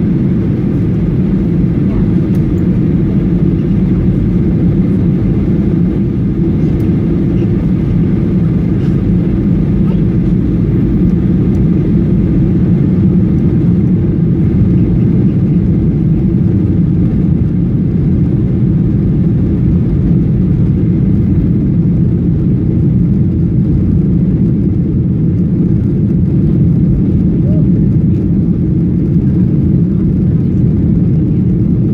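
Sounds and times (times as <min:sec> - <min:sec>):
airplane cabin engine drone: 0:00.0 - 0:31.9.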